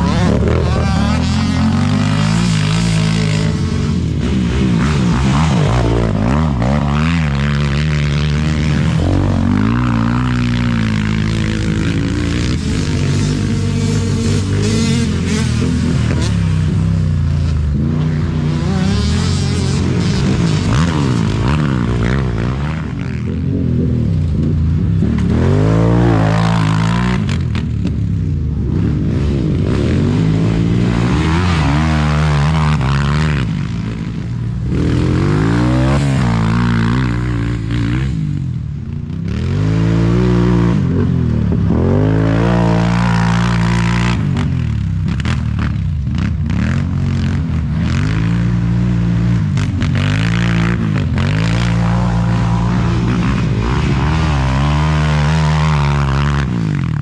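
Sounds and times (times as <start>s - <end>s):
atv engines accelerating: 0.0s - 57.0s.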